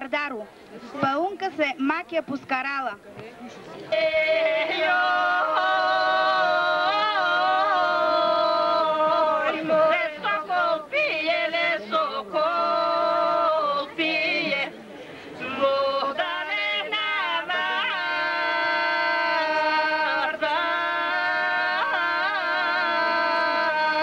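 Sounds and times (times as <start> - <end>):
women's group singing folk song: 3.9 - 24.0.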